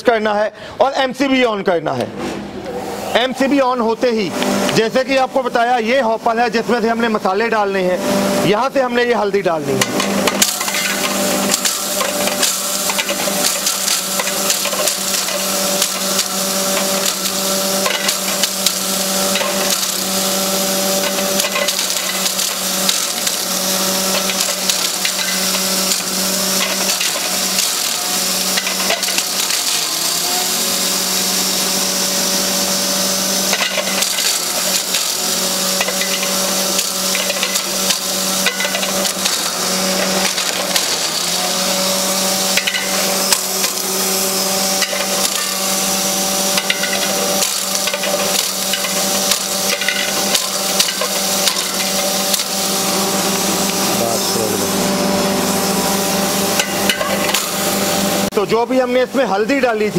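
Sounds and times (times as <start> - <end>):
grinder motor hum: 2.0 - 59.9.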